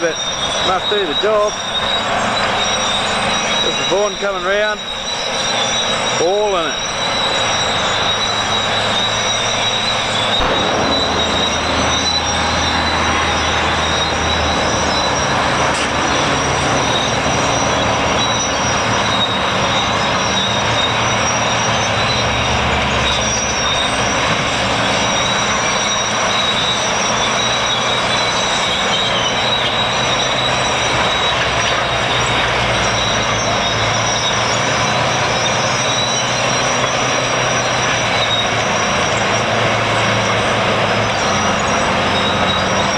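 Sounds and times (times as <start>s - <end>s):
diesel engines working under load: 0.0s - 42.9s
dense mechanical clatter: 6.5s - 41.7s.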